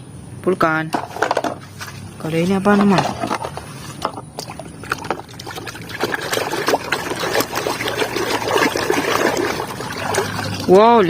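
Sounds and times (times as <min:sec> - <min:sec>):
water splashing and trickling: 0:01.7 - 0:11.0.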